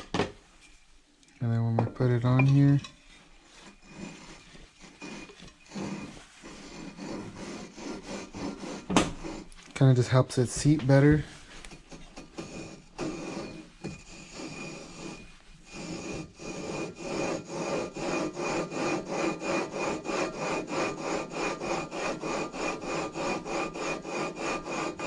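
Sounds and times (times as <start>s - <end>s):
flywheel scraping on crankshaft taper: 2.0s - 25.0s.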